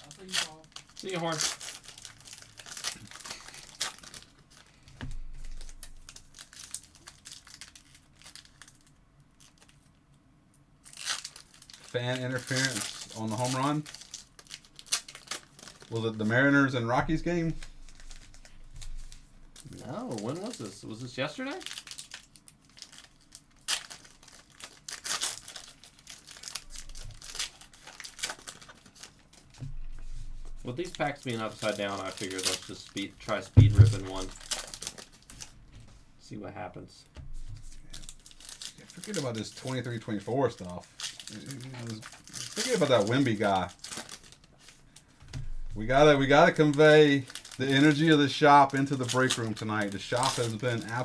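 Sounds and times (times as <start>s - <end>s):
foil wrappers crinkling and tearing: 0.0s - 10.0s, 10.8s - 35.6s, 37.3s - 51.0s.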